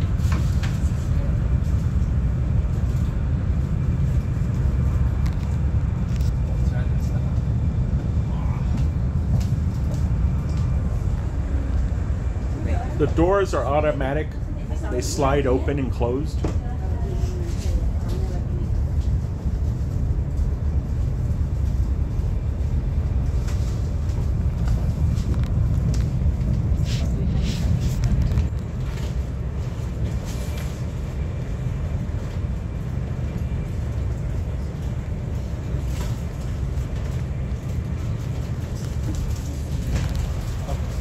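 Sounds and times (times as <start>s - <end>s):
train cabin rumble: 0.0s - 41.0s.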